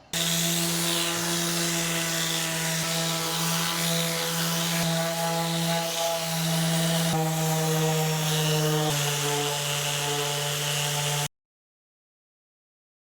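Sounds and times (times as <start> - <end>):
orbital sander on wood: 0.0 - 11.3.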